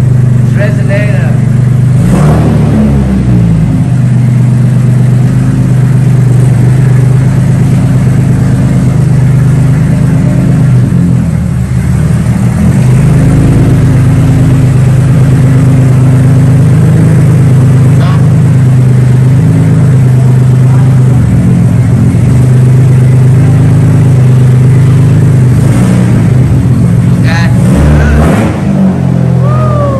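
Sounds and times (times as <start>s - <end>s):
loud car engine idling: 0.0s - 29.9s.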